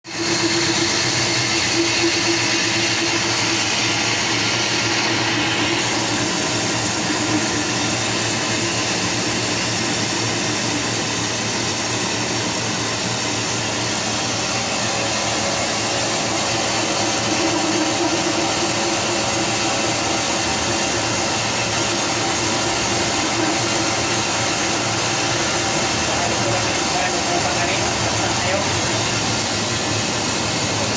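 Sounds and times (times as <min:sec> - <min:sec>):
metalworking machinery humming: 0:00.1 - 0:30.9.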